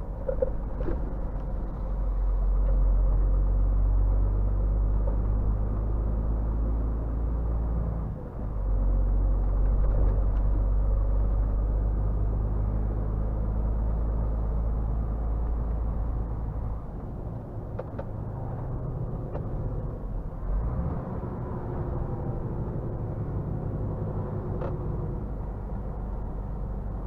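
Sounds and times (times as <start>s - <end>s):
truck diesel engine droning: 0.0s - 27.0s.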